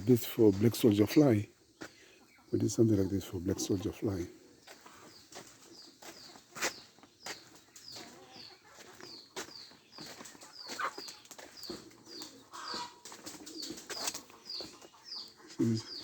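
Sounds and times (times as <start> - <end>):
small bird chirping: 0.0 - 16.0.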